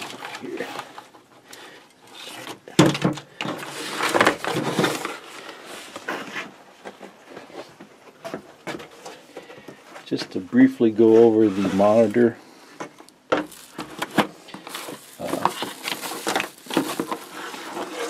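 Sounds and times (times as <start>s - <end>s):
cardboard rustling and scraping: 0.0s - 1.3s, 2.1s - 18.0s.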